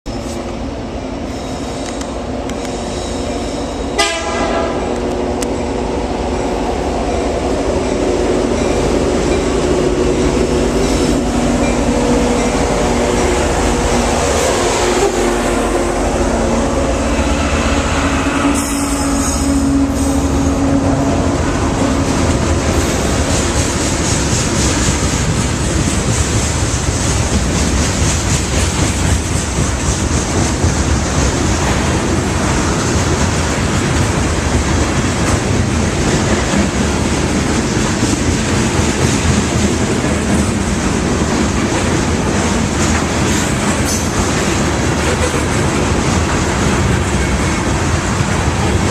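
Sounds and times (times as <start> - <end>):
train engine hum: 0.1 - 48.9
train wheels rumbling on rails: 0.1 - 48.9.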